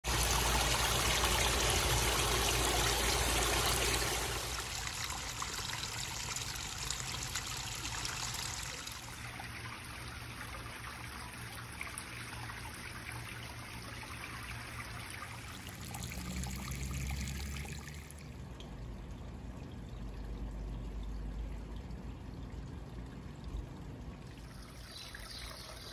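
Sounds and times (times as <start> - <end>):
water trickling over stones: 0.0 - 25.9.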